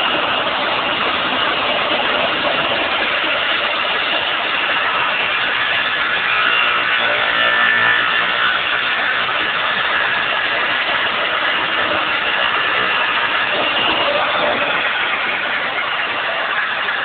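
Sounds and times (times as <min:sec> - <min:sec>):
motor running steadily: 0:00.0 - 0:17.0.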